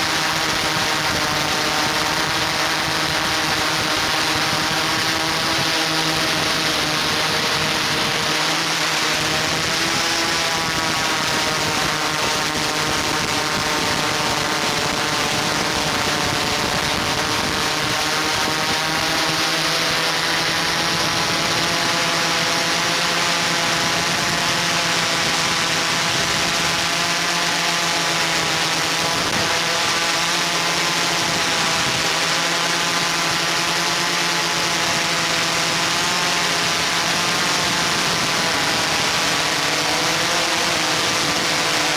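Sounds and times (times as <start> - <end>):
drone motors and propellers humming: 0.0 - 41.9.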